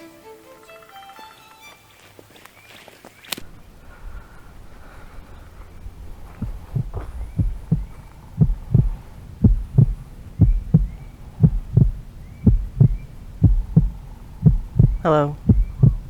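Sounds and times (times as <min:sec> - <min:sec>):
footsteps walking: 0:02.0 - 0:16.0.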